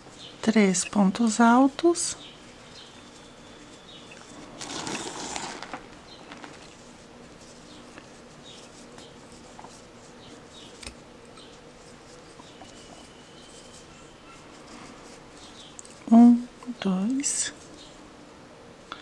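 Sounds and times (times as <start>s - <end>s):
yarn rustling: 0.0s - 18.0s.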